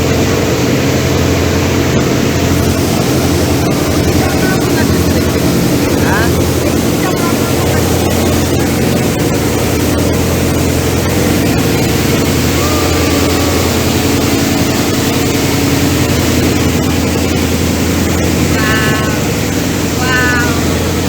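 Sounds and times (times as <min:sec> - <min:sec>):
boat engines droning: 0:00.0 - 0:21.0
water rushing past hull: 0:00.0 - 0:21.0
wind: 0:00.0 - 0:21.0.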